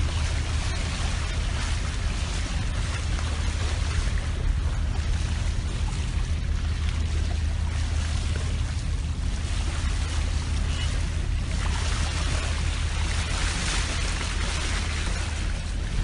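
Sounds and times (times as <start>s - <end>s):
steady low drone: 0.0s - 16.0s
water rushing along hull: 0.0s - 16.0s.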